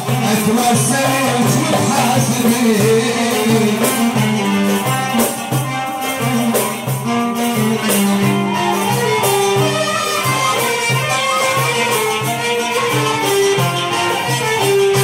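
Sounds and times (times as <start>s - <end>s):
hand drum beats: 0.0s - 15.0s
violin and oud melody: 0.0s - 15.0s.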